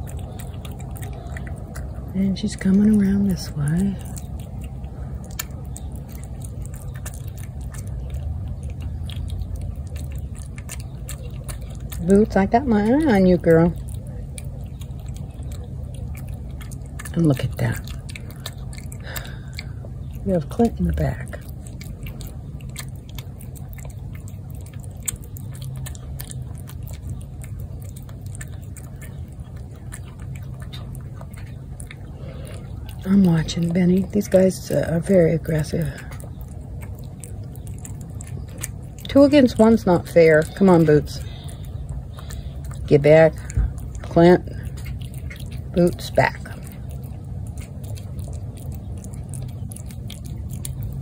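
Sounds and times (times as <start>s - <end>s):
cat chewing wet food: 0.0s - 51.0s
steady low rumble: 0.0s - 51.0s.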